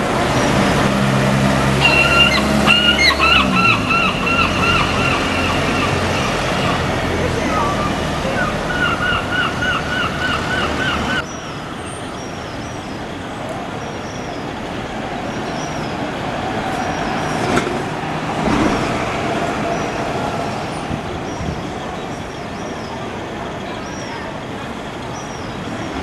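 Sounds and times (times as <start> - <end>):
city traffic hum: 0.0 - 26.0
diesel bus engine: 0.0 - 26.0.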